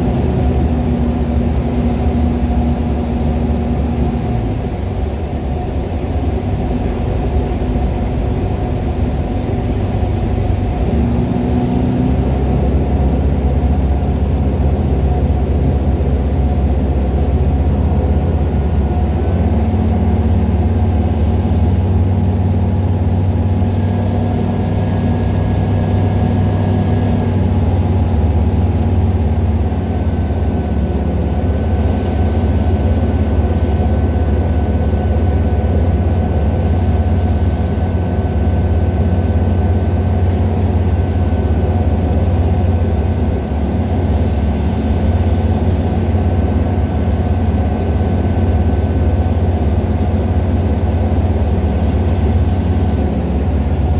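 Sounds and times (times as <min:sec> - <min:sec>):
aircraft engine drone: 0:00.0 - 0:53.9.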